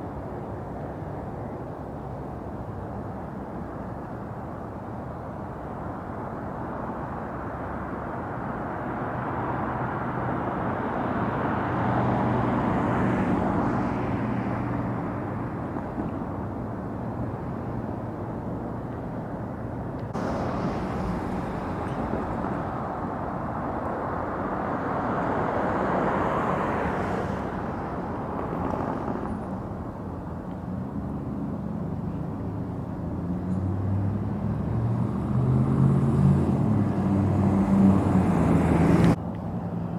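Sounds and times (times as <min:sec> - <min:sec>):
vehicles passing by: 0:06.8 - 0:39.9.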